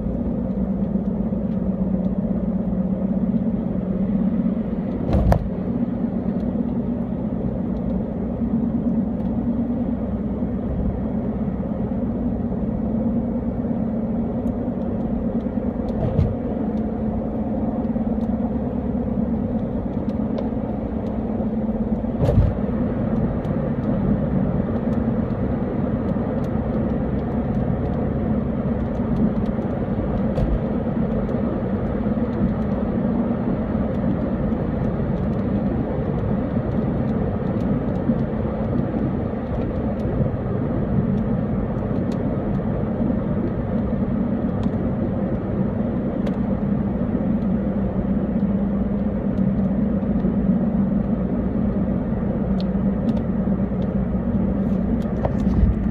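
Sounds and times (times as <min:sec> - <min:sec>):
car engine hum from inside: 0:00.0 - 0:55.9
road and tyre rumble: 0:00.0 - 0:55.9.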